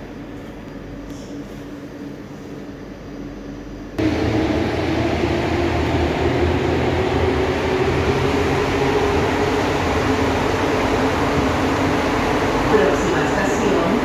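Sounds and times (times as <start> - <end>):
train rumbling through tunnel: 0.0 - 14.0.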